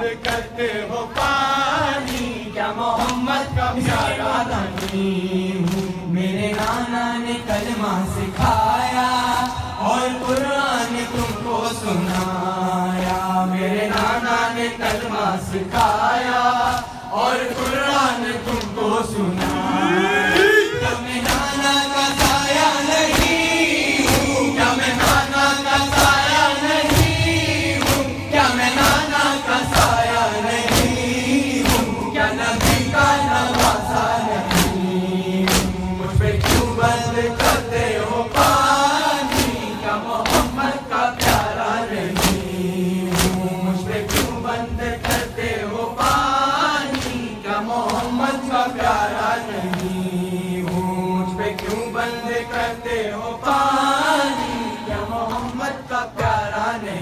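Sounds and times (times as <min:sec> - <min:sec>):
men chanting together: 0:00.0 - 0:57.0
rhythmic chest-beating strikes: 0:00.0 - 0:57.0.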